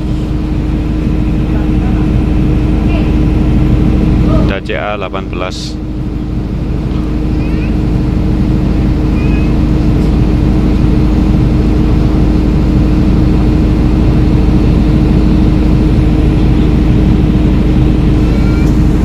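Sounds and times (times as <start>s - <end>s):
generators droning: 0.0s - 19.0s.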